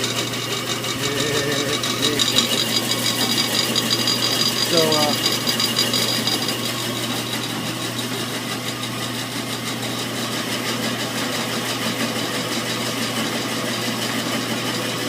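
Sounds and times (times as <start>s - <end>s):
bandsaw motor hum: 0.0s - 15.0s.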